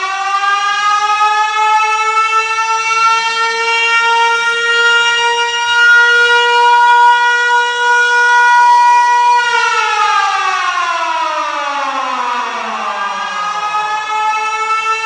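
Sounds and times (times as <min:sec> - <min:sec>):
air-raid siren wailing: 0:00.0 - 0:15.0.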